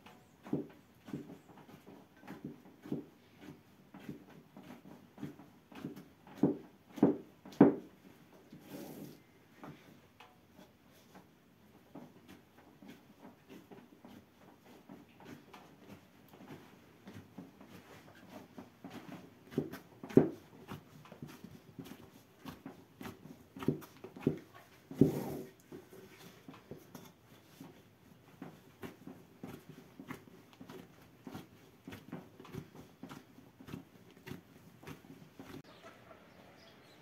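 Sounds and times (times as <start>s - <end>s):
dough kneaded by hand: 0.0s - 35.8s.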